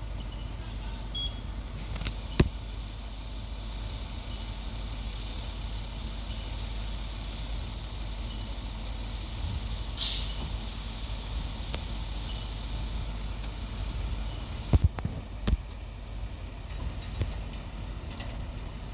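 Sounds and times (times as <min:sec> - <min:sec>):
fire truck engine idling: 0:00.0 - 0:18.9.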